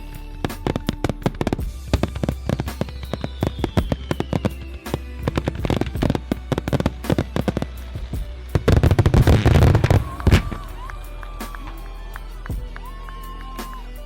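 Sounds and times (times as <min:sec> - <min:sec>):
music: 0:00.0 - 0:14.0
fireworks bangs and crackling: 0:00.4 - 0:12.7.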